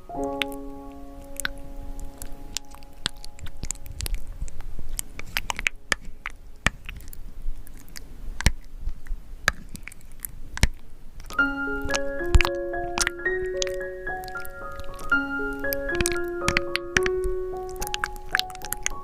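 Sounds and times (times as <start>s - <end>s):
thick paint being stirred: 1.2s - 19.0s.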